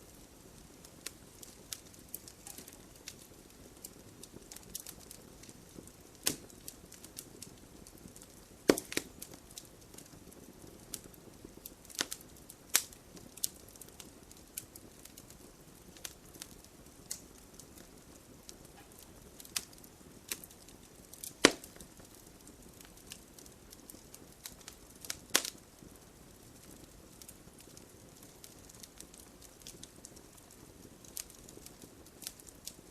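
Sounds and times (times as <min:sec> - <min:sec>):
crackles and pops from logs: 0:00.0 - 0:32.9
fire hissing: 0:00.0 - 0:32.9.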